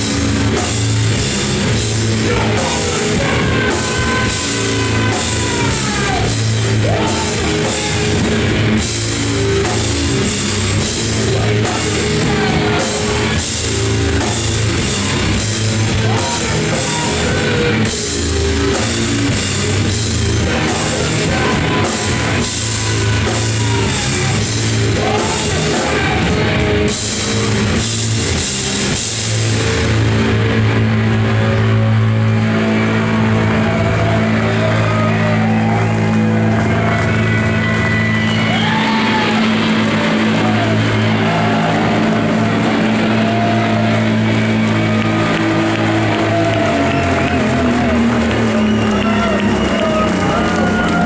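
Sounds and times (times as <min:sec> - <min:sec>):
bass guitar: 0:00.0 - 0:51.0
distorted electric guitar: 0:00.0 - 0:51.0
driving drum kit: 0:00.0 - 0:51.0.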